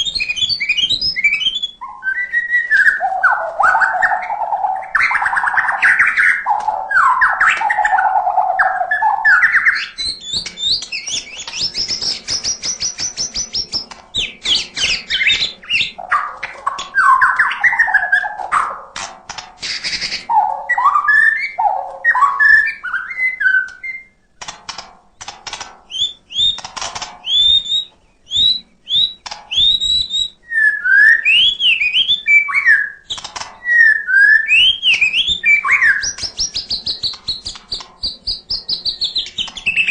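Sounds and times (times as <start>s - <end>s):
songbird singing varied song: 0.0s - 18.9s, 19.7s - 24.4s, 25.9s - 39.9s.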